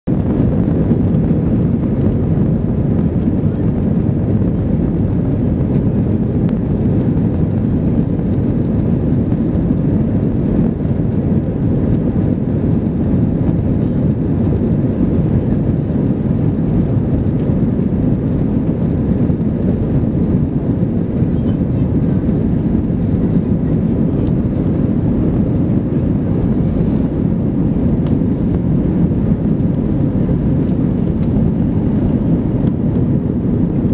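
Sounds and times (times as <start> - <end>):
airplane cabin take-off roar: 0.0 - 33.9.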